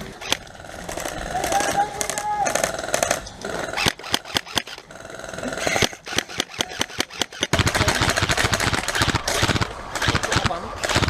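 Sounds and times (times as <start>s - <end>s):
airsoft guns firing: 0.2s - 4.9s, 5.7s - 11.0s.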